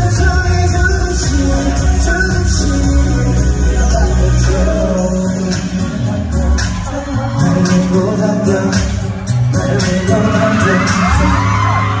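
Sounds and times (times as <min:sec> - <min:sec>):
man singing into microphone: 0:00.0 - 0:12.0
pop backing track with heavy bass: 0:00.0 - 0:12.0.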